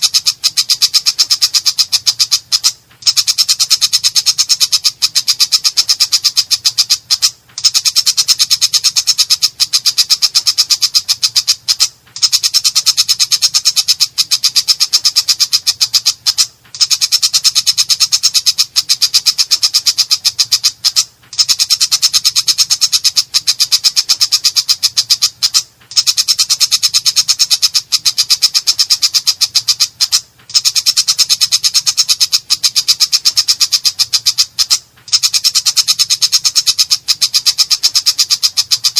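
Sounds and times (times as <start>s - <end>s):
bird harsh rapid chatter: 0.0s - 38.9s.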